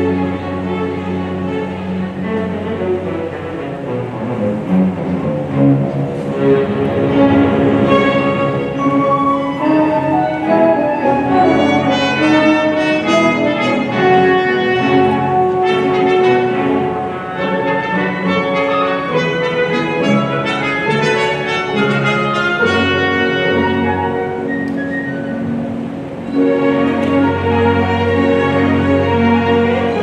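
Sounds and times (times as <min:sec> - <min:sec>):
symphony orchestra playing: 0:00.0 - 0:30.0
brass section: 0:02.7 - 0:30.0.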